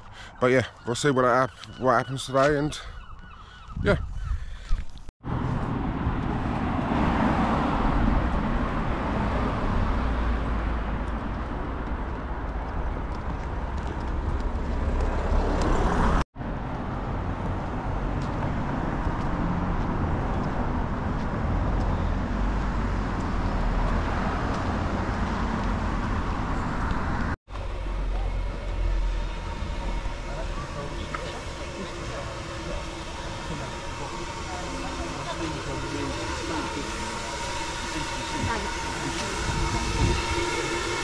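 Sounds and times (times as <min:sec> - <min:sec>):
vehicle road and engine noise: 0:04.8 - 0:41.0.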